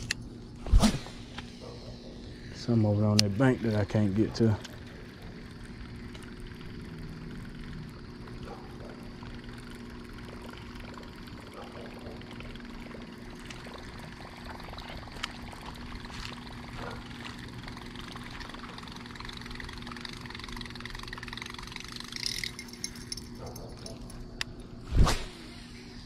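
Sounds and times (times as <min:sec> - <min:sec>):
lure blade churning water: 0:03.2 - 0:24.2.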